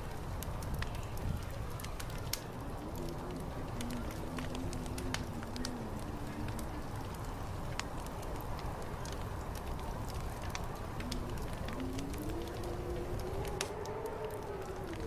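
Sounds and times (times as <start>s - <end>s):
wind rumbling: 0.0s - 15.0s
wood fire crackling: 0.0s - 15.0s.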